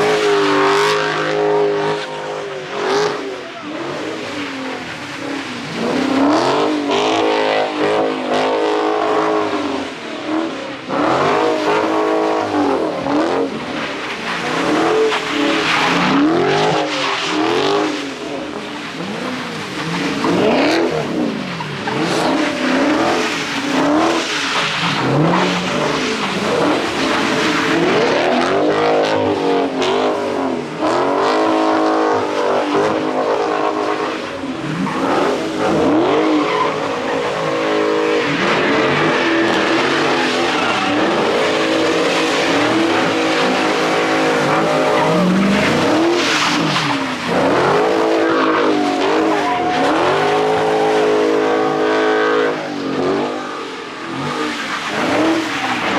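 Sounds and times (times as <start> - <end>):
car engines revving hard: 0.0 - 55.9
tyres skidding on wet pavement: 0.0 - 55.9.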